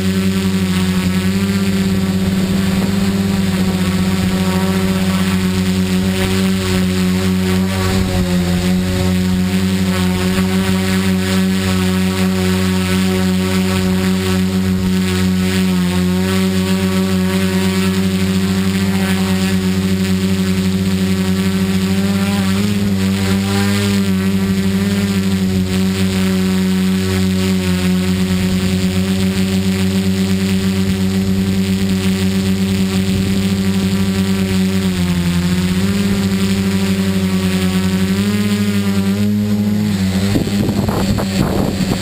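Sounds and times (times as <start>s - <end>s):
drone motors buzzing: 0.0s - 42.0s.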